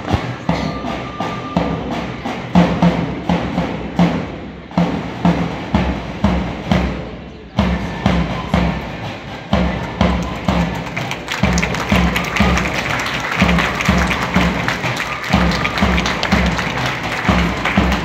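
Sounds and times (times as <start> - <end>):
marching band drums: 0.0 - 18.0.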